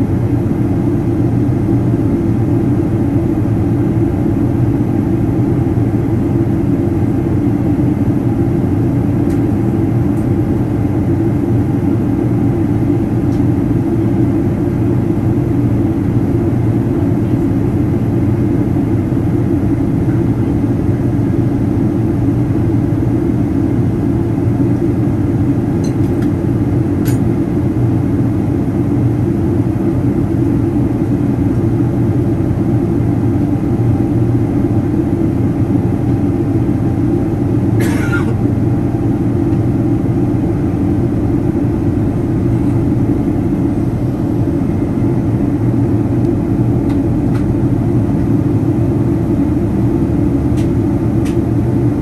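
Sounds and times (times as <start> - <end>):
jet engine cabin drone: 0.0 - 52.0.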